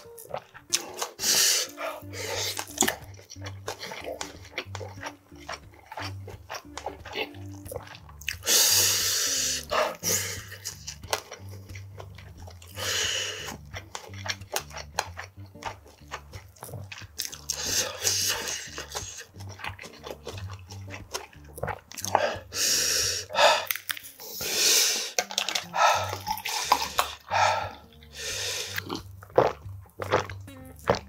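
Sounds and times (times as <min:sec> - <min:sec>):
close chewing of food: 0:00.0 - 0:31.0
quiet background music: 0:00.0 - 0:31.0.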